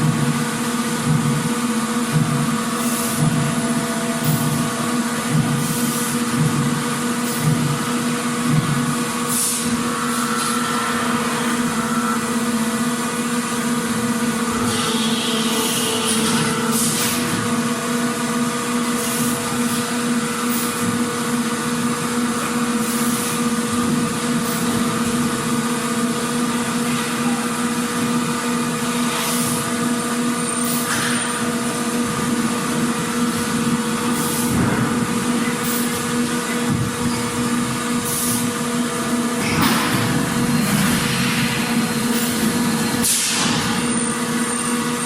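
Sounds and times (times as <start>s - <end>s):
machinery hum: 0.0s - 45.0s.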